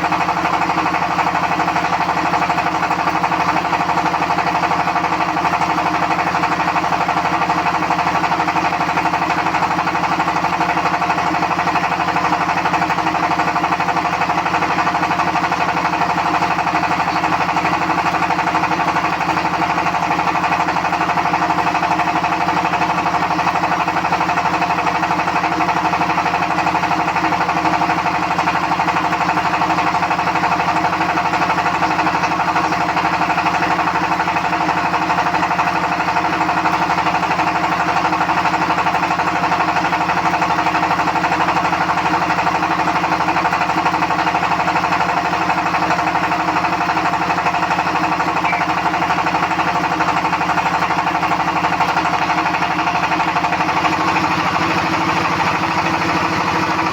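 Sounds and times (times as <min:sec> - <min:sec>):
machine droning with fine rattle: 0:02.3 - 0:56.9.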